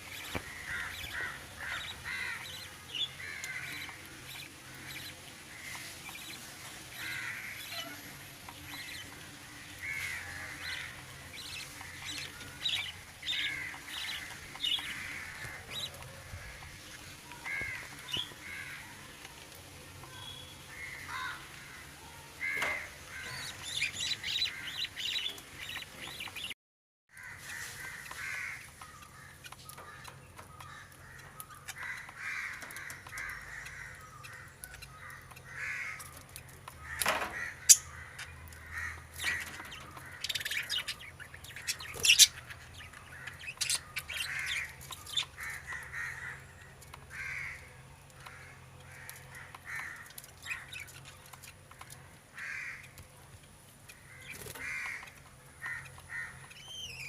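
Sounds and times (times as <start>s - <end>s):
budgerigars chirping: 0.0s - 18.8s, 22.5s - 26.5s, 27.4s - 53.0s.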